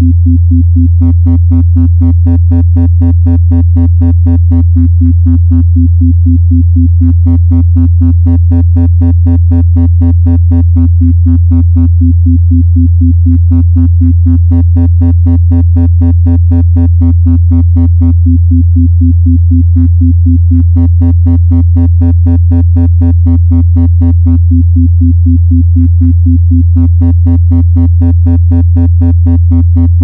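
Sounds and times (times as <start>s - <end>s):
pulsing synthesized tone: 1.0s - 30.0s.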